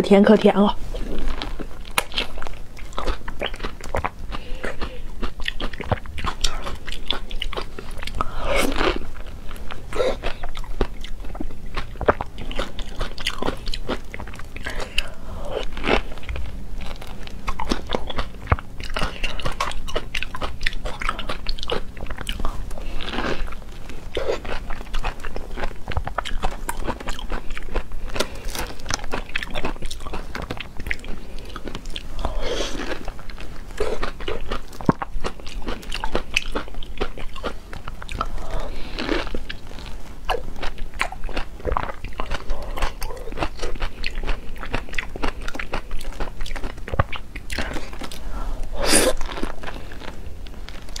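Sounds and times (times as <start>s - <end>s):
biting and chewing frozen fruit: 0.9s - 51.0s.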